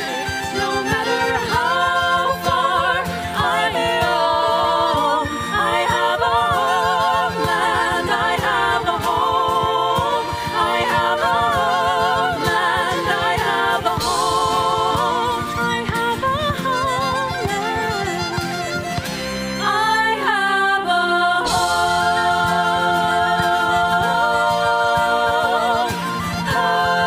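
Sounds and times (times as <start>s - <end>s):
acoustic guitar: 0.0s - 27.0s
fiddle: 0.0s - 27.0s
voices singing in harmony: 0.0s - 27.0s.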